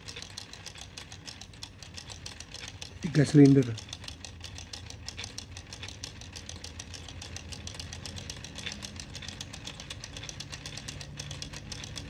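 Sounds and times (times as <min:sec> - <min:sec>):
plastic toy engine clicking: 0:00.0 - 0:12.0.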